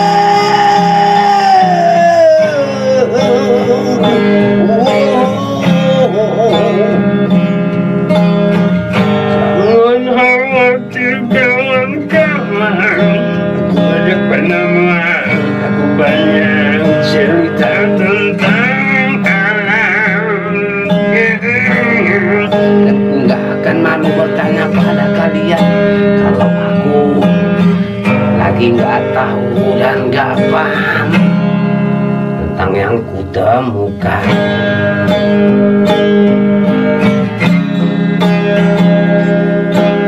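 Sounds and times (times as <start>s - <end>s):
acoustic guitar strumming: 0.0s - 40.0s
man singing with vibrato: 0.0s - 40.0s.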